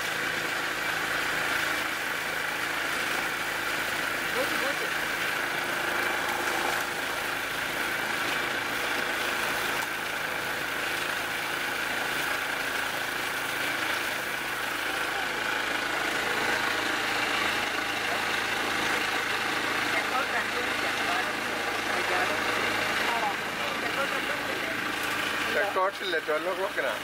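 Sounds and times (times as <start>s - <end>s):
motorboat engine droning: 0.0s - 27.0s.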